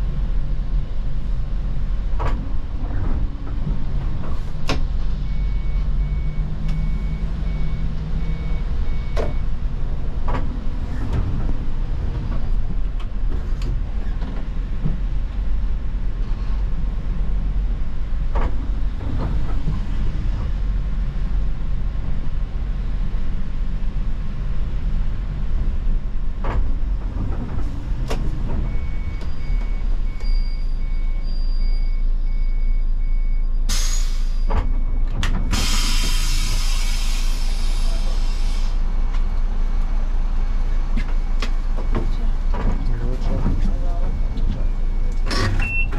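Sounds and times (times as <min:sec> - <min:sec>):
bus engine drone: 0:00.0 - 0:45.9
road noise: 0:00.0 - 0:45.9.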